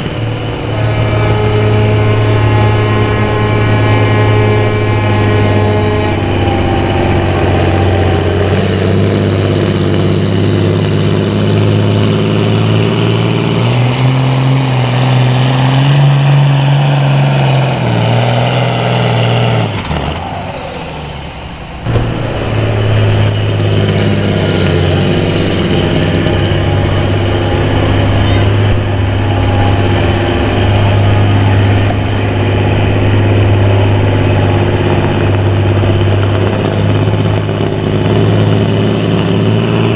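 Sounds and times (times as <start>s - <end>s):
tractor engine revving high: 0.0s - 39.9s.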